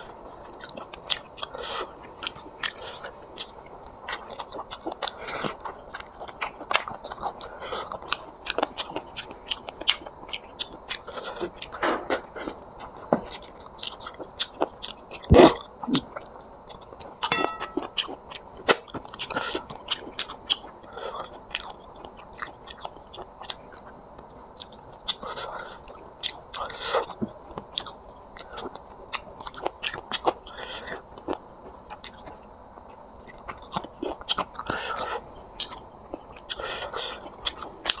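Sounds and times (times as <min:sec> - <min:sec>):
person chewing and smacking: 0:00.0 - 0:38.0.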